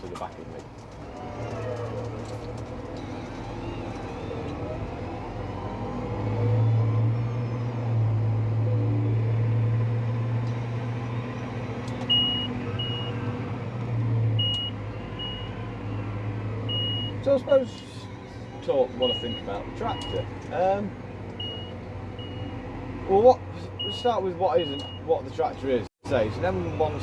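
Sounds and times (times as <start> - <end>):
tractor engine drone: 0.0 - 27.0.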